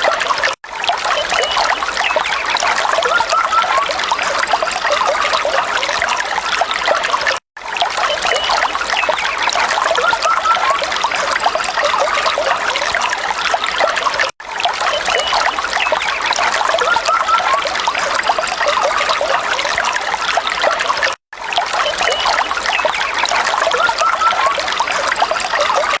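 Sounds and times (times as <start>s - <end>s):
stream water trickling: 0.0s - 26.0s.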